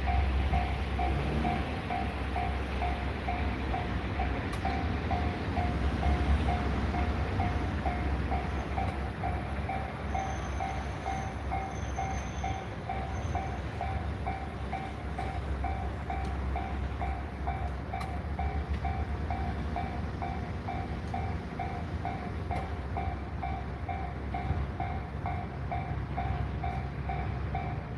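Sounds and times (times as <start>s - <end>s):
level-crossing warning bell ringing: 0.0s - 27.9s
low rumble of trains: 0.0s - 27.9s.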